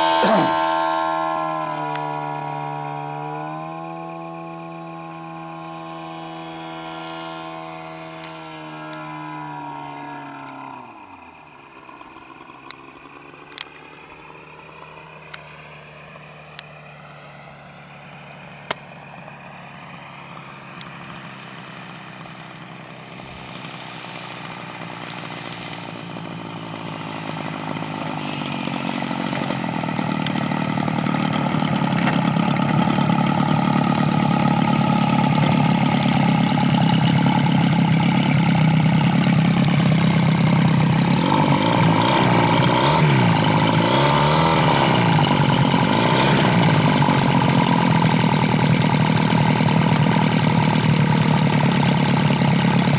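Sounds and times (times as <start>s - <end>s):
model airplane engine and propeller: 0.0s - 52.9s.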